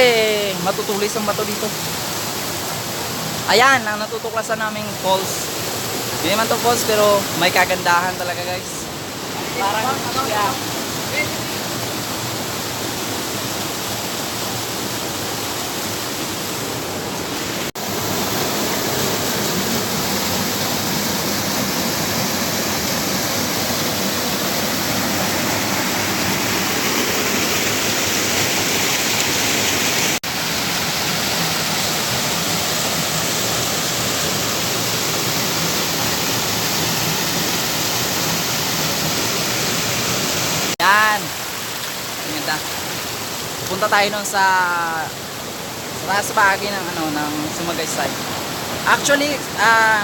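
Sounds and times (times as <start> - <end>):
water rushing over rocks: 0.0 - 50.0.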